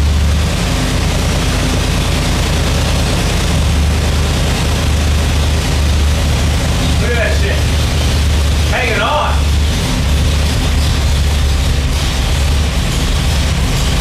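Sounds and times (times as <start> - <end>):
engine idling low rumble: 0.0 - 14.0.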